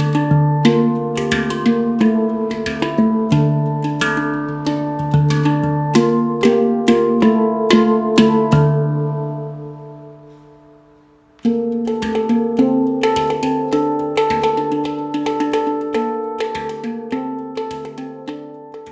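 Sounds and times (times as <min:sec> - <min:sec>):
handpan played by hand: 0:00.0 - 0:10.7, 0:11.4 - 0:18.9.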